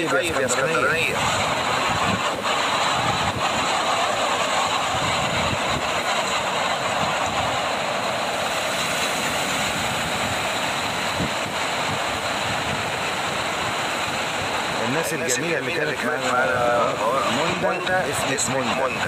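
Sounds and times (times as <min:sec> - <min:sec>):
surf breaking against rocks: 0:00.0 - 0:19.0.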